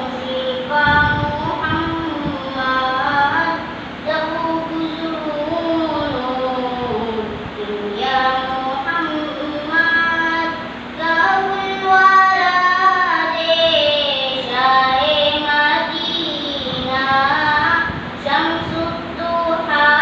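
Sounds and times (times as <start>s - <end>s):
boy singing devotional song: 0.0s - 20.0s.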